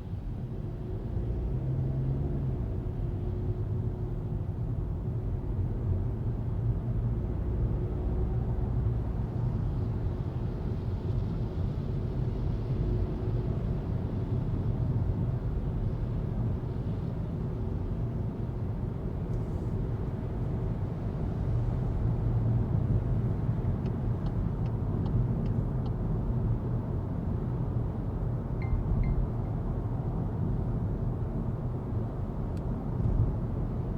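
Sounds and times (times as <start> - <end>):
in-cabin car driving rumble: 0.0 - 33.9.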